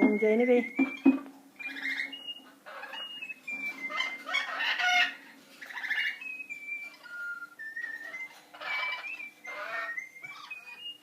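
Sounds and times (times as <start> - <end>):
parrots squawking and whistling: 0.0 - 11.0.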